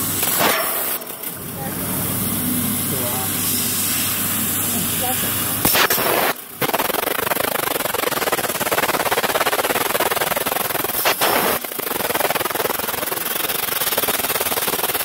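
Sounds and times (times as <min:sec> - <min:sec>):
crackling molten metal sparks: 0:00.0 - 0:15.0
laser cutter gas hiss: 0:00.0 - 0:15.0.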